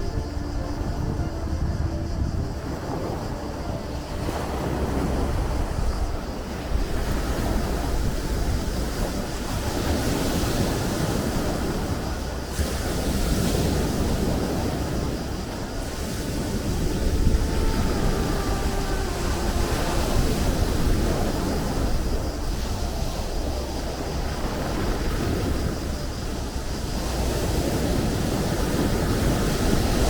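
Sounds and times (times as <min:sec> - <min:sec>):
sea waves breaking: 0:00.0 - 0:30.0
wind rumble on microphone: 0:00.0 - 0:30.0.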